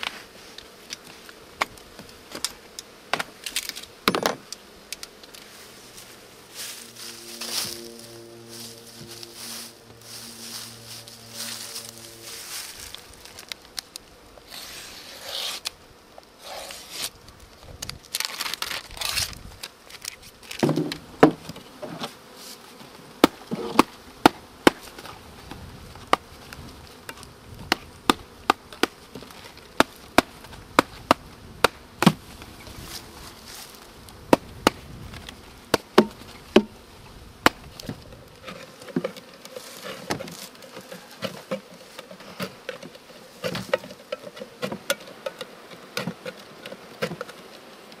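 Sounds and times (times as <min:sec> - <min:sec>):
honeybees buzzing: 0:00.0 - 0:48.0.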